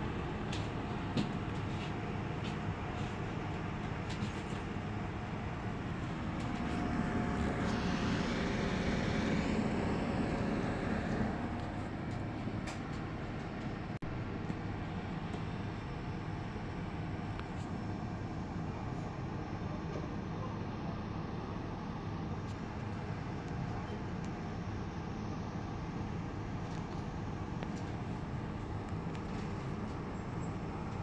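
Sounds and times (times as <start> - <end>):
construction machinery engine drone: 0.0 - 31.0.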